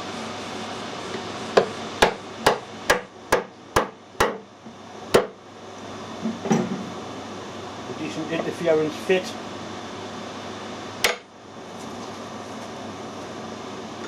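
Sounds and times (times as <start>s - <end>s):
machine-shop hum: 0.0s - 14.0s.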